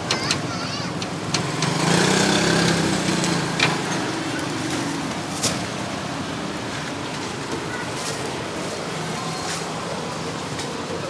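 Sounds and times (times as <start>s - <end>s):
street noise: 0.0s - 11.0s
small vehicle engine passing: 0.3s - 11.0s.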